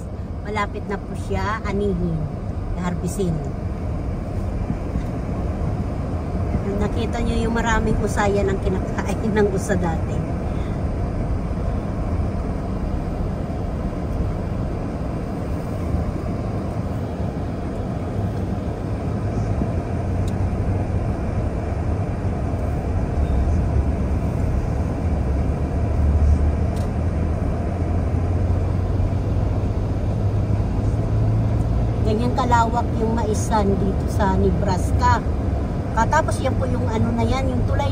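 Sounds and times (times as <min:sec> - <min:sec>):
car tyre and engine rumble: 0:00.0 - 0:37.9.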